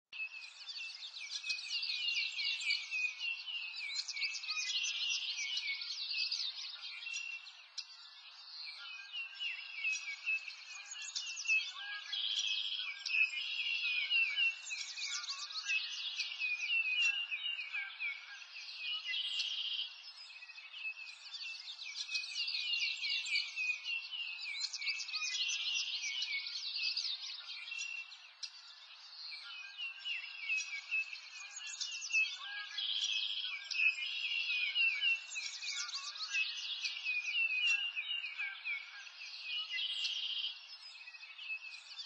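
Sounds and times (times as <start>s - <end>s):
songbirds singing: 0.0s - 42.0s.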